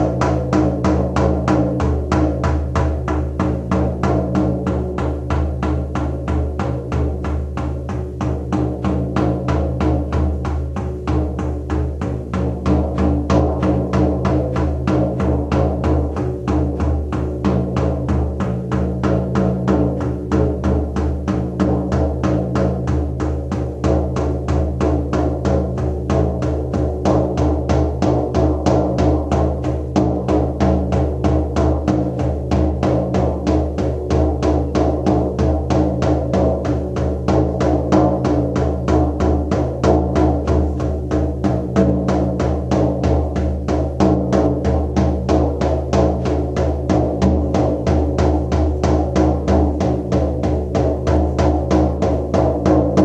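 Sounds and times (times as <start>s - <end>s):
hand drum beating steadily: 0.0s - 53.0s.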